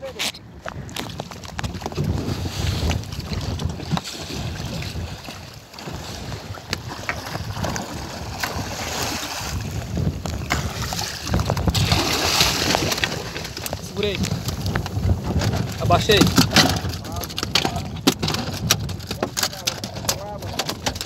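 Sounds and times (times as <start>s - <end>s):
wind buffeting microphone: 0.0s - 21.0s
sea water splashing against boat: 0.7s - 21.0s.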